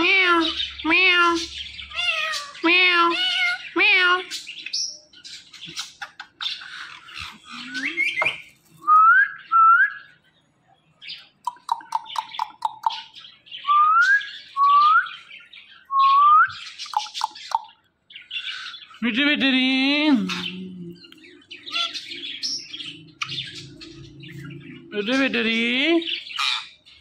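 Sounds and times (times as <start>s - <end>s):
parrots squawking and chattering: 0.0s - 8.9s, 11.0s - 27.0s.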